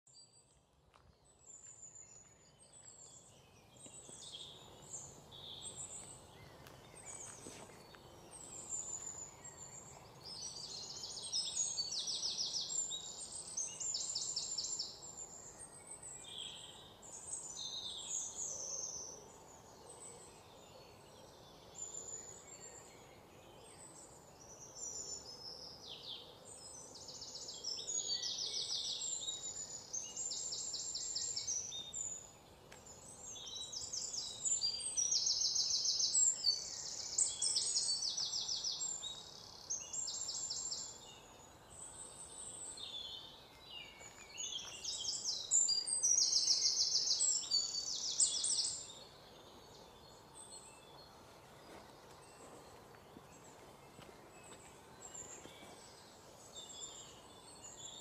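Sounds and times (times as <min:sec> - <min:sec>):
birds chirping and trilling: 0:00.1 - 0:58.0
faint outdoor hiss: 0:00.1 - 0:58.0.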